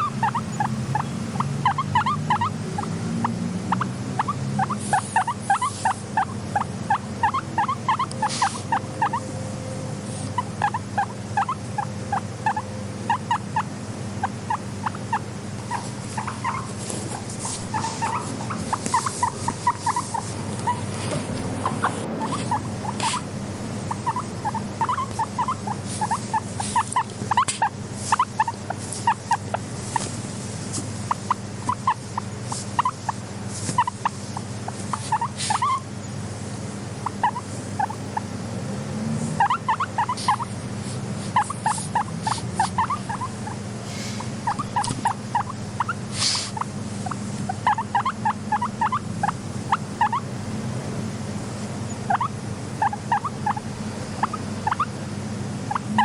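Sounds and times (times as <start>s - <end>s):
guinea pig squeaking chirps: 0.0s - 9.4s, 10.0s - 36.2s, 36.9s - 38.3s, 39.2s - 50.3s, 51.9s - 55.0s, 55.6s - 56.0s
steady low hum: 0.0s - 56.0s.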